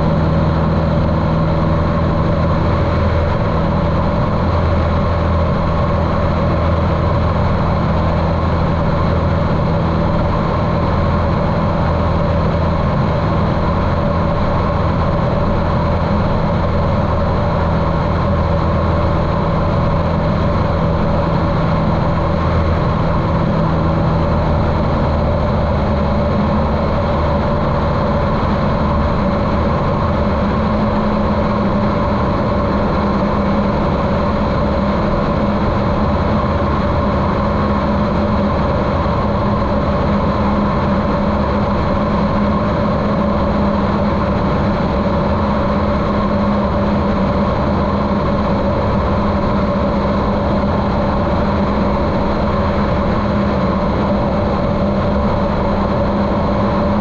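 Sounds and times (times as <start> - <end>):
muffled propeller plane engine: 0.0 - 57.0.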